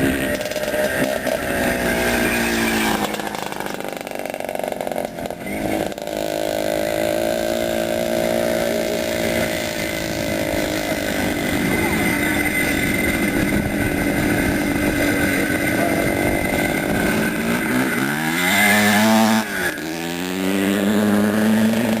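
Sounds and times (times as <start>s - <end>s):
motorcycle rasping exhaust: 0.0s - 22.0s.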